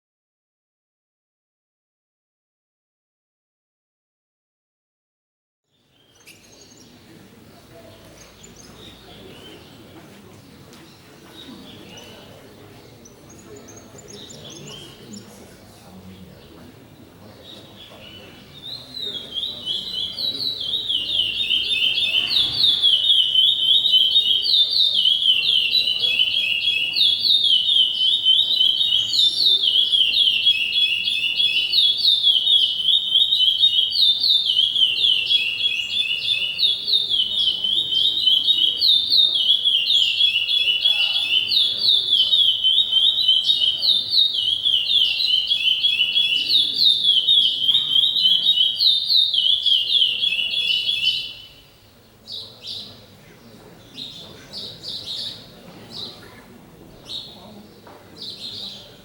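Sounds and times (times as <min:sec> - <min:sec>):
songbird singing: 0:05.7 - 0:59.0.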